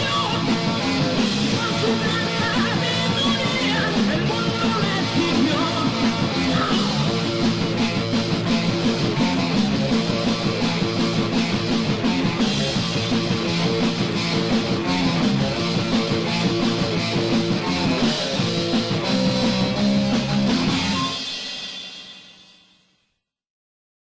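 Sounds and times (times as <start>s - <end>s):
heavy metal band playing: 0.0s - 22.4s.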